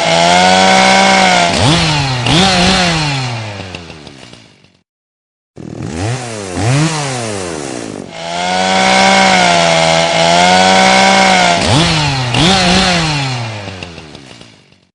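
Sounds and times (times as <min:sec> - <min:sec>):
chainsaw engine revving: 0:00.0 - 0:04.8, 0:05.6 - 0:14.9.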